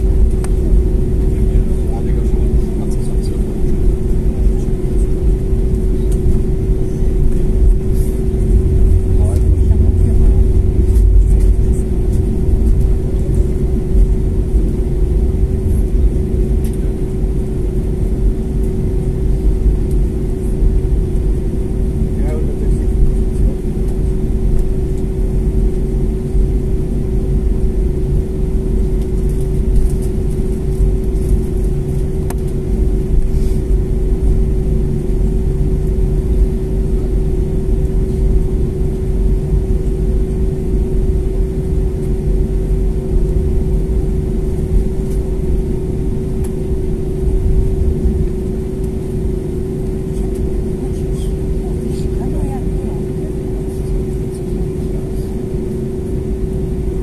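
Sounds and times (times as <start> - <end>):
aircraft engines idling hum: 0.0 - 57.0
low rumble: 0.0 - 57.0.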